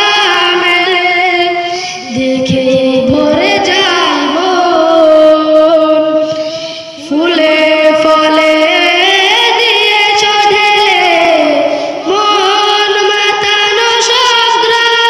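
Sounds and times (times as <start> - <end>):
boy singing into microphone: 0.0 - 15.0.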